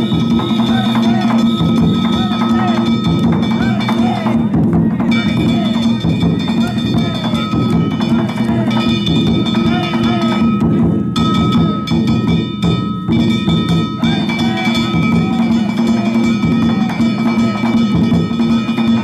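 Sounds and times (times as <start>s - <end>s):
clanging hand-struck gongs: 0.0s - 19.0s
taiko drum beating: 0.0s - 19.0s.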